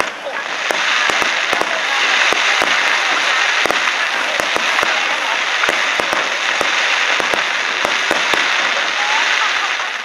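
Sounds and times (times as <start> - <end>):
fireworks shells bursting: 0.0 - 10.0
steady hiss: 0.0 - 10.0.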